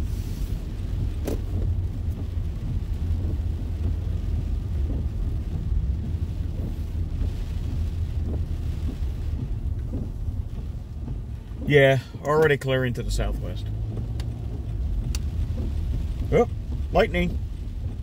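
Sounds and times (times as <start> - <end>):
low rumble inside car: 0.0 - 18.0
rain: 0.0 - 18.0
windshield wipers sweeping: 0.0 - 18.0.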